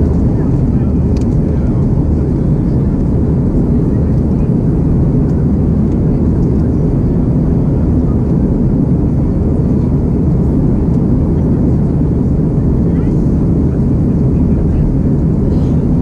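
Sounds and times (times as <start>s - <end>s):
jet engine and airflow roar: 0.0s - 16.0s.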